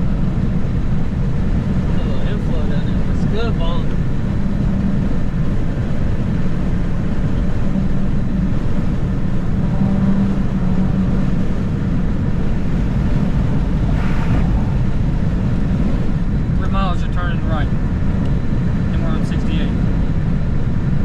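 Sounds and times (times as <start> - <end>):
car cabin road and engine noise: 0.0 - 21.0.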